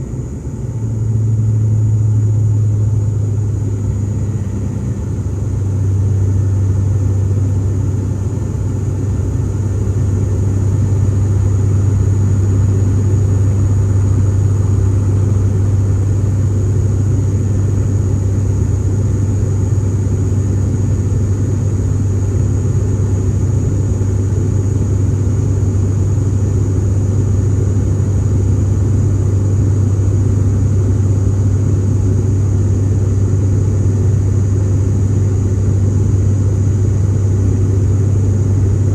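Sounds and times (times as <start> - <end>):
turboprop cabin drone: 0.0 - 38.9.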